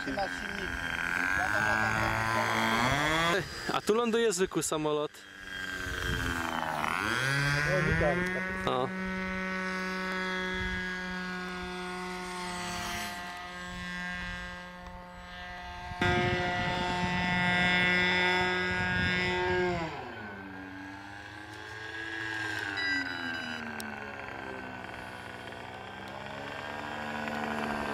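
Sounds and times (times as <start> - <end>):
model airplane engine: 0.0 - 27.9.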